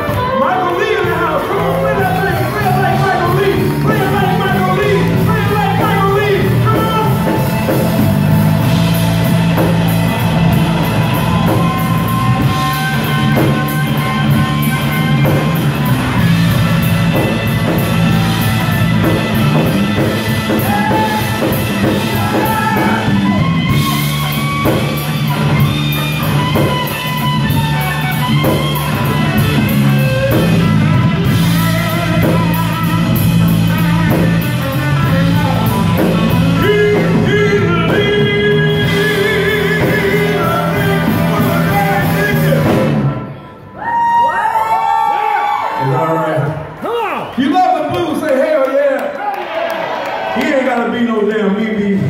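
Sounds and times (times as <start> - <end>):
drum kit: 0.0 - 43.4
electric guitar: 0.0 - 43.8
bass: 0.0 - 52.0.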